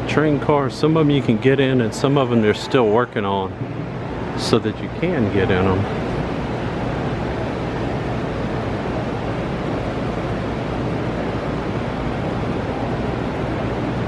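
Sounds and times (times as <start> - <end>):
wind buffeting microphone: 2.6 - 14.0.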